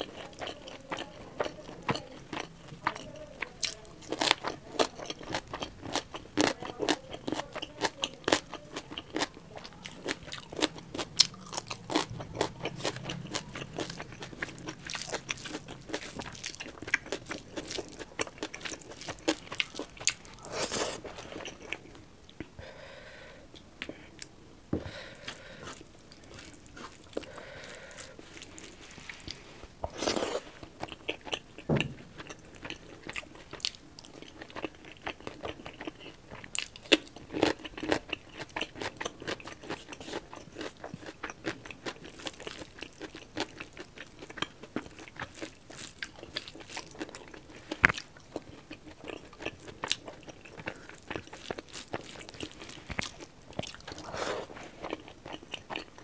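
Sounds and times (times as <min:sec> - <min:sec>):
chewing and crunching: 0:00.0 - 0:22.6, 0:25.0 - 0:56.0.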